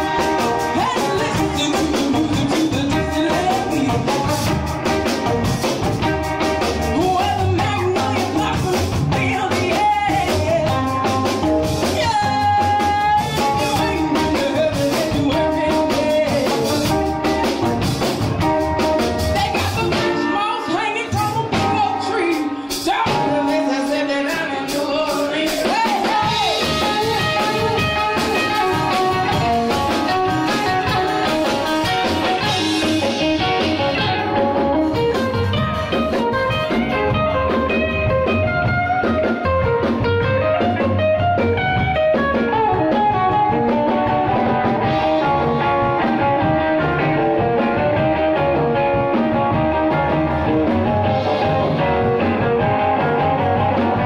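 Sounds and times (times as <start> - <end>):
song with guitar and singing: 0.0 - 54.0.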